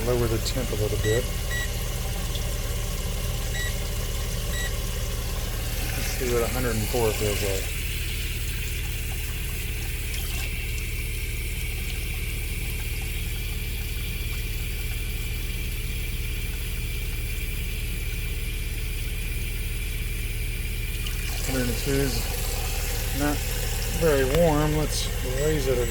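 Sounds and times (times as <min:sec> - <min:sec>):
tap water running: 0:00.0 - 0:25.9
water heater humming: 0:00.0 - 0:25.9.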